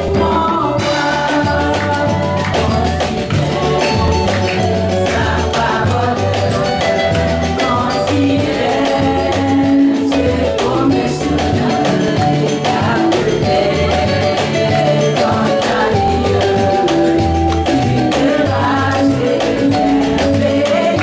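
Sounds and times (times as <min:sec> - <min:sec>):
bass and percussion accompaniment: 0:00.0 - 0:21.0
women singing gospel: 0:00.0 - 0:21.0.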